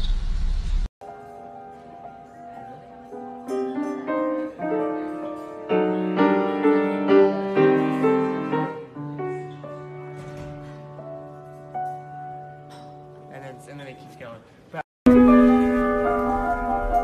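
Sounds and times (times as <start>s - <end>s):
piano playing: 1.0s - 14.3s, 15.1s - 17.0s.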